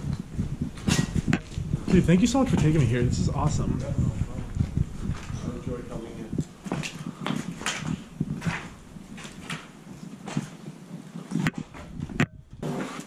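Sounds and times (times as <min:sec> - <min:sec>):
footsteps on gritty concrete: 0:00.0 - 0:02.9, 0:03.6 - 0:13.0.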